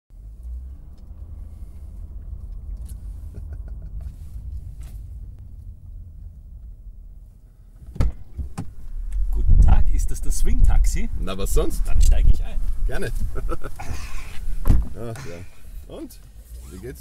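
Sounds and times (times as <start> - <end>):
car interior rumble: 0.1 - 17.0.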